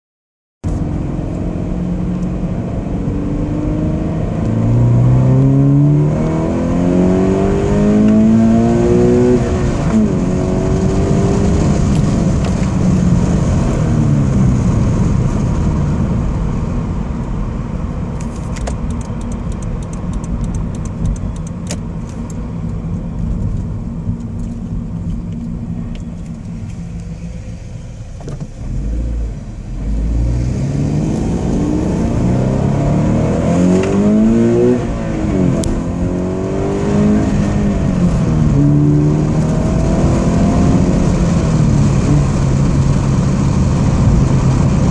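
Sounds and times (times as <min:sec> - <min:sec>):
car engine and exhaust accelerating: 0:00.6 - 0:44.9.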